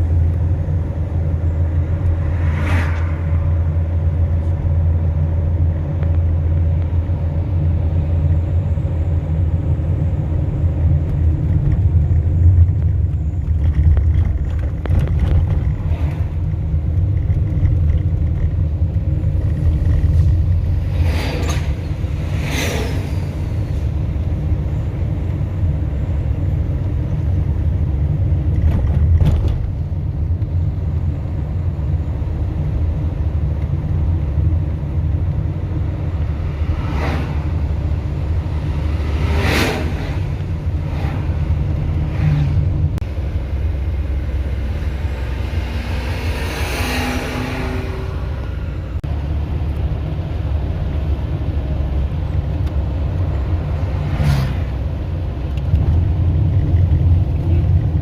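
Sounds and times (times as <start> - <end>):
motor vehicle rumbling: 0.0 - 58.0.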